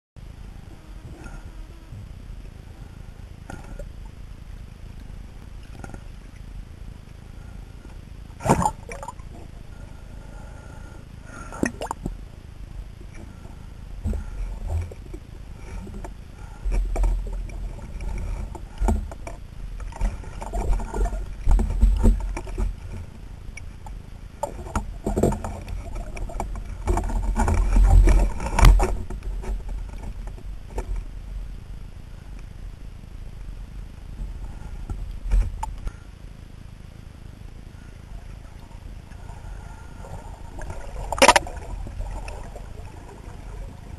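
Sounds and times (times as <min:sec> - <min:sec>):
muffled underwater rushing: 0:00.2 - 0:43.9.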